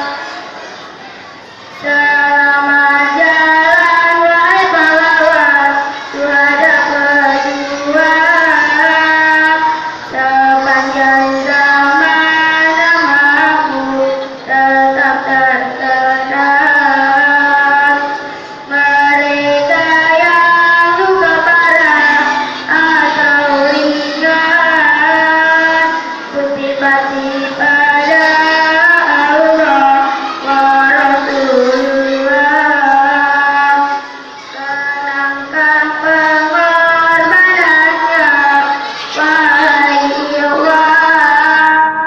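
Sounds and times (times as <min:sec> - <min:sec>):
young person singing: 0:01.7 - 0:42.0.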